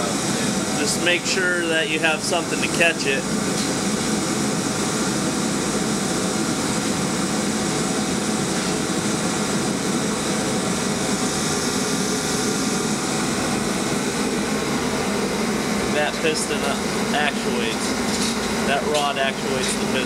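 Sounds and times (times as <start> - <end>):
fan machine humming: 0.0 - 20.0.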